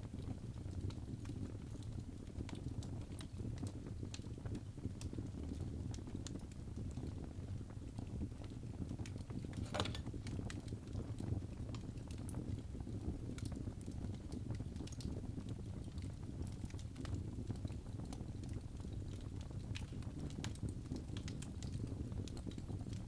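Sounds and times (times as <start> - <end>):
fire crackling and popping: 0.0 - 23.0
low rumble of fire: 0.0 - 23.0.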